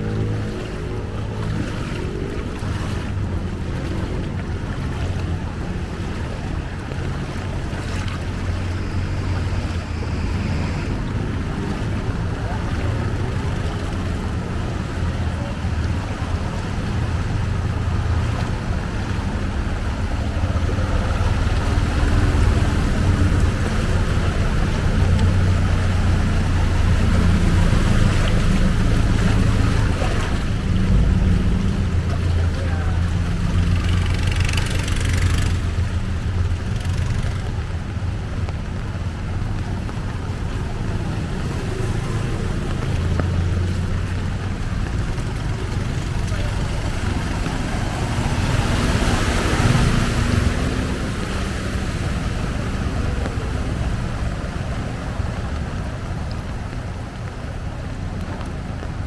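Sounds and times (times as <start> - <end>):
floodwater rushing: 0.0 - 59.0
vehicle engine running: 0.0 - 59.0.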